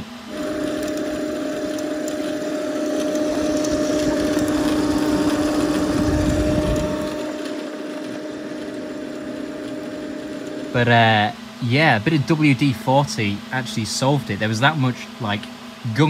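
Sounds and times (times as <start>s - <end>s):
cooling fans humming and whirring: 0.0s - 16.0s.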